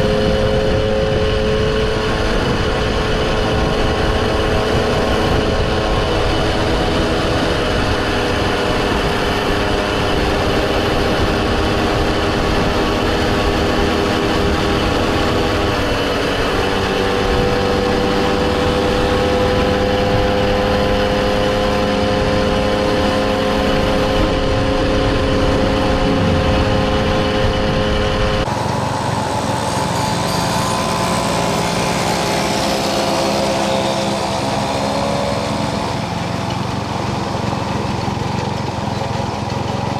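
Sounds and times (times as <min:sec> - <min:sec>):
two-stroke moped engines: 0:00.0 - 0:39.9.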